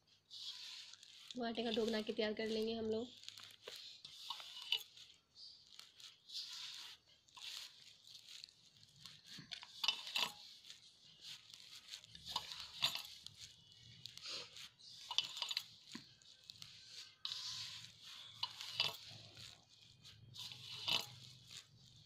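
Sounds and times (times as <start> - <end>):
hands kneading crumbly dough: 0.0 - 22.0.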